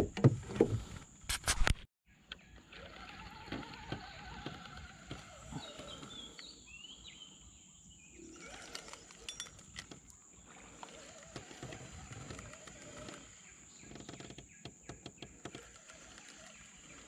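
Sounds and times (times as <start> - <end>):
insect drone: 2.9 - 17.0.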